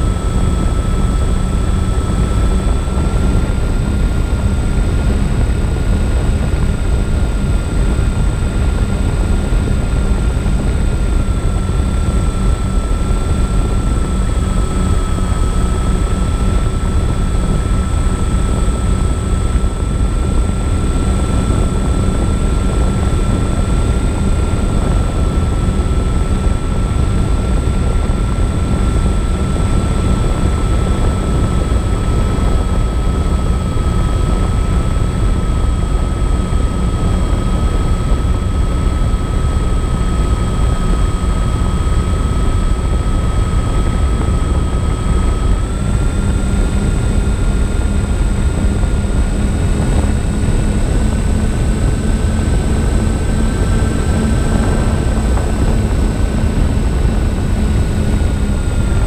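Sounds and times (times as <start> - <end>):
electric motors and propellers whining: 0.0 - 59.0
wind rumble on microphone: 0.0 - 59.0.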